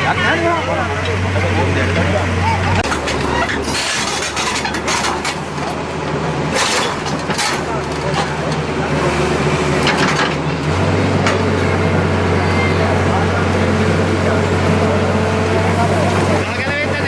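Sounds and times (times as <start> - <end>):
engine running at low pitch: 0.0 - 17.0
people's voices: 0.0 - 17.0.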